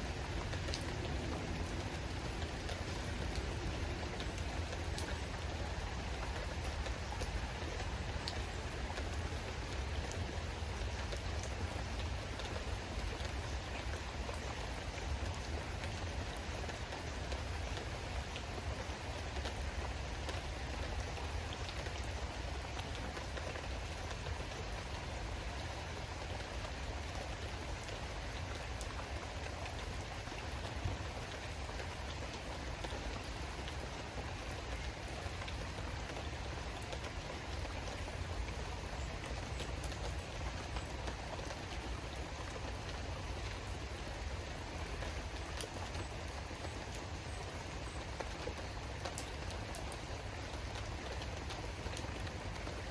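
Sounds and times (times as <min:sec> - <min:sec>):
steady rain: 0:00.0 - 0:52.9.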